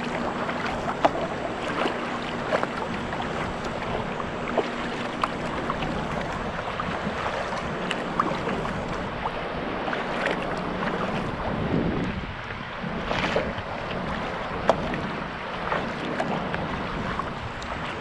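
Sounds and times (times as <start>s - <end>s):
water splashing around kayak: 0.0s - 18.0s
wind on microphone: 0.0s - 18.0s.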